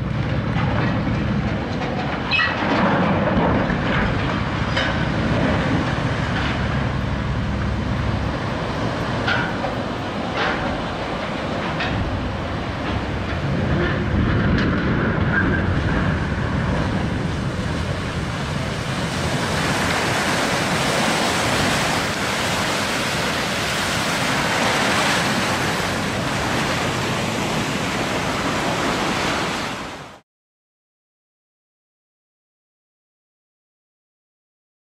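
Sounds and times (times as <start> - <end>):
wind on microphone: 0.0 - 30.0
water rushing over bank: 0.0 - 30.2.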